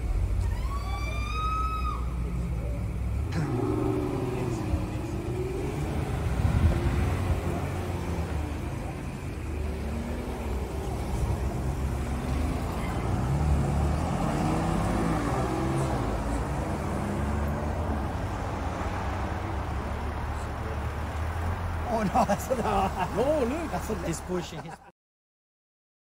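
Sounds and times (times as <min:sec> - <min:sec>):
cars driving past: 0:00.0 - 0:24.9.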